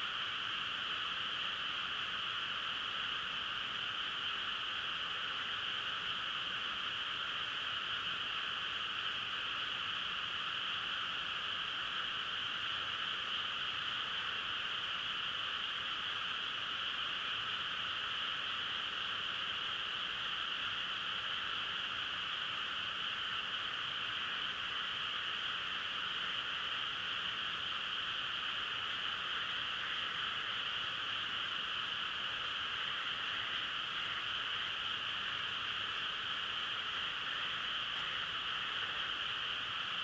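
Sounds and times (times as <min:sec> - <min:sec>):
chorus of frogs calling: 0:00.0 - 0:40.0.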